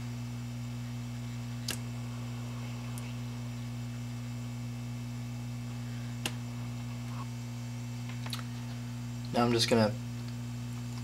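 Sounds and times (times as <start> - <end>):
hot air station humming: 0.0 - 11.0.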